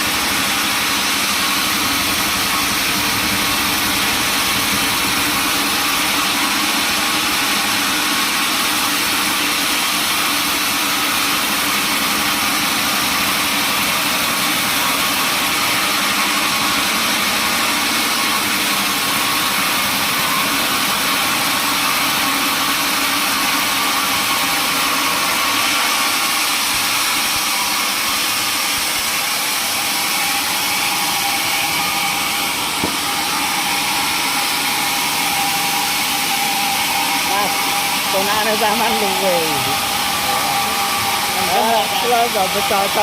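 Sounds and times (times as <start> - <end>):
sawmill machinery humming: 0.0 - 43.0.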